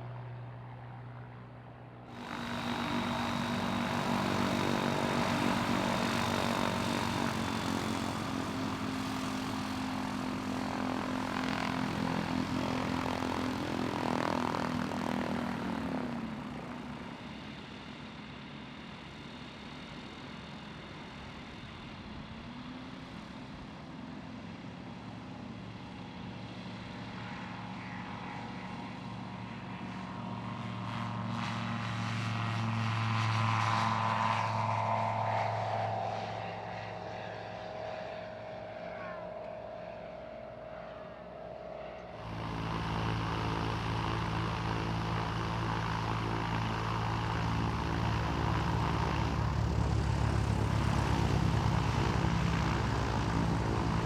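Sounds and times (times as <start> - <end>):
propeller aircraft engine passing: 0.0 - 54.0
propeller engine running steadily: 0.0 - 54.0.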